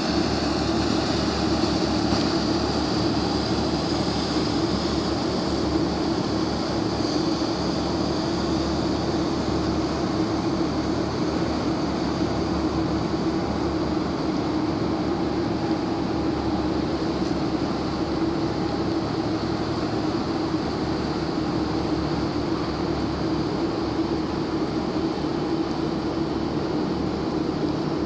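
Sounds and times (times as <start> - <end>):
ship engine drone: 0.0 - 28.0
water noise: 0.0 - 28.0
wind: 0.0 - 28.0.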